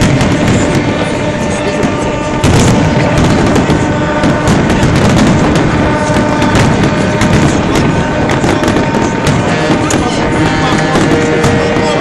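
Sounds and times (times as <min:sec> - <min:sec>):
fireworks bangs and crackles: 0:00.0 - 0:12.0
steady tones: 0:00.0 - 0:12.0.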